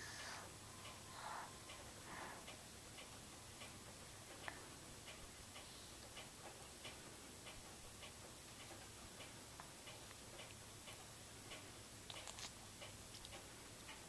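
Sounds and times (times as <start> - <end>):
faint regular ticking: 0.1 - 14.0.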